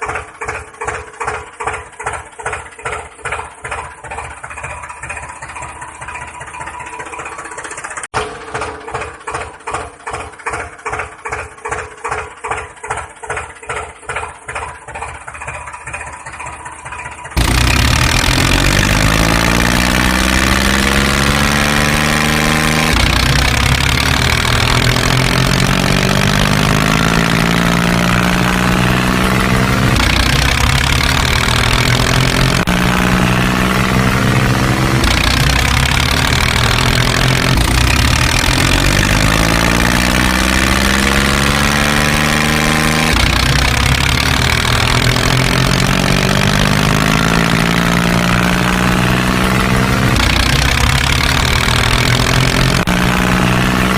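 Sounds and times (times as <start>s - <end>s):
loud running engine: 0.0s - 53.9s
tractor engine thudding: 0.0s - 53.9s.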